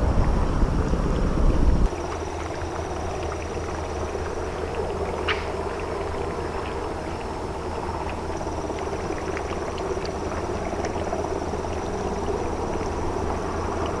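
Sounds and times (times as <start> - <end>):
ship engine low hum: 0.0 - 14.0.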